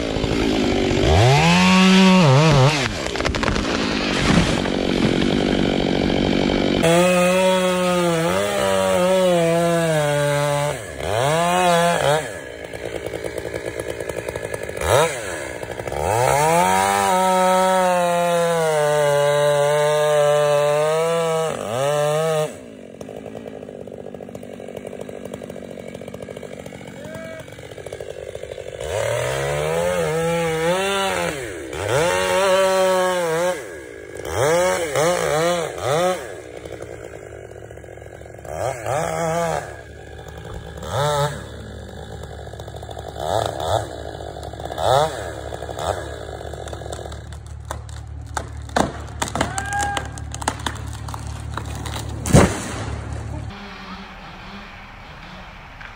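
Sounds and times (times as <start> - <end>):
chainsaw cutting tree trunk: 0.0 - 55.9.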